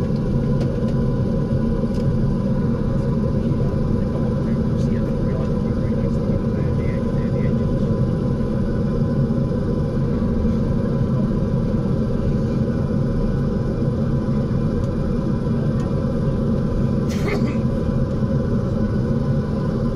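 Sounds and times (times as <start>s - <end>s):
faint steady whine: 0.0s - 19.9s
turboprop engine drone: 0.0s - 19.9s.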